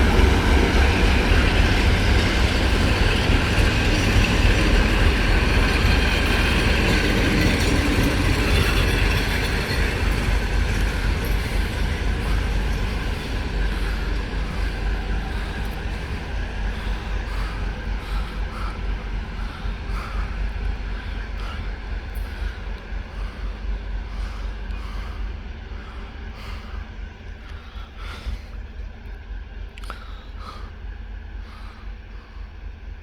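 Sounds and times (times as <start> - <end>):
train rolling on rails: 0.0 - 33.0.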